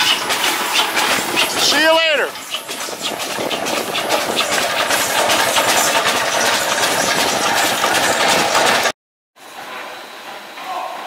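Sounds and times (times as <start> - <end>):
steam hissing: 0.0 - 8.9
steam engine chuffing: 0.0 - 9.0.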